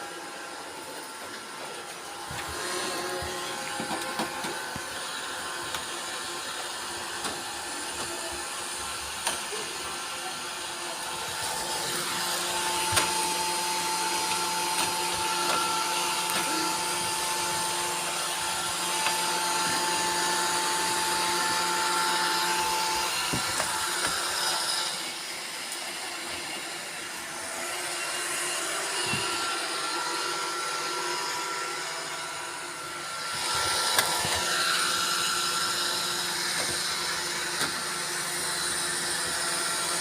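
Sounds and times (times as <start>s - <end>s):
robot vacuum motor and brush whir: 0.0s - 40.0s.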